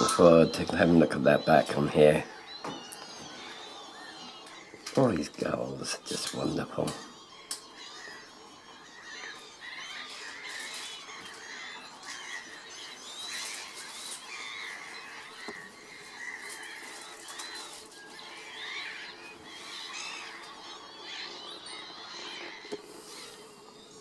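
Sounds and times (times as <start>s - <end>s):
lapwings calling: 0.0s - 24.0s.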